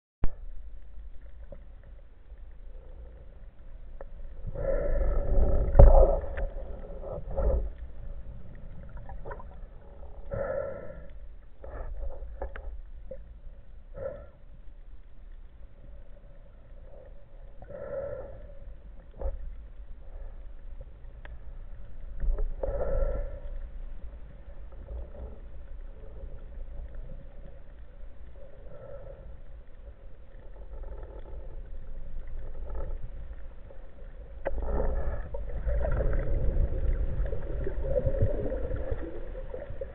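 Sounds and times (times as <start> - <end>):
underwater rumble of moving water: 0.2 - 39.9.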